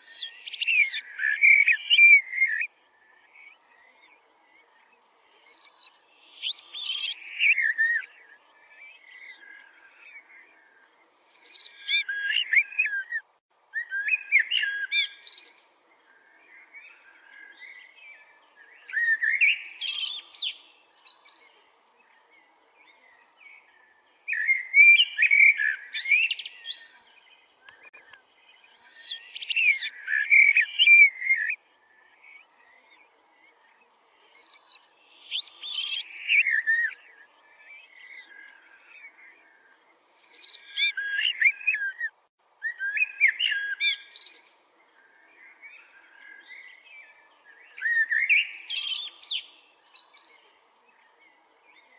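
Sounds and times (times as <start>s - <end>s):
bird singing high chirps: 0.0s - 51.9s.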